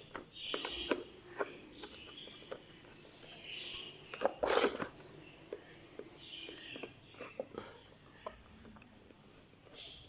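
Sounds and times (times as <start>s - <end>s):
faint high chirping: 0.0s - 8.8s, 9.6s - 10.0s
light clicks and scrapes: 0.1s - 10.0s.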